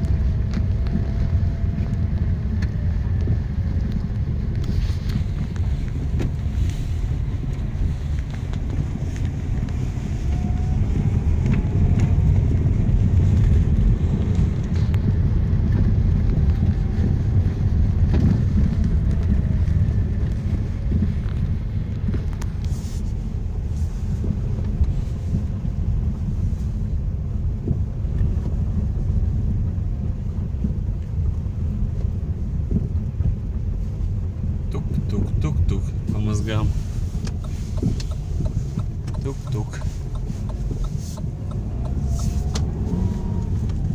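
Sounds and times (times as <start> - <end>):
low road rumble inside car: 0.0 - 43.9.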